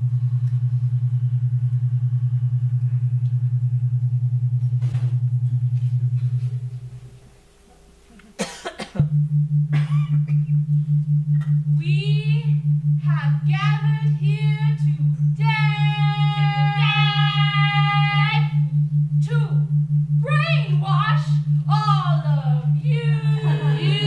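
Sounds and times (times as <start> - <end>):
low throbbing electronic drone: 0.0 - 7.5, 9.0 - 24.0.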